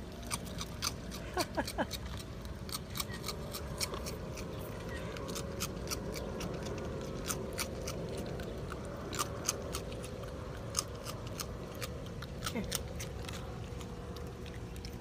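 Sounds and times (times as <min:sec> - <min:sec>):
animal crunching cereal: 0:00.0 - 0:15.0
low background rumble: 0:00.0 - 0:15.0.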